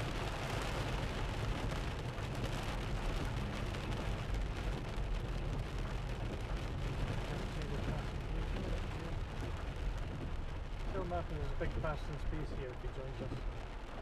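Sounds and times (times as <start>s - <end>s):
engine and tyre rumble in cabin: 0.0s - 14.0s.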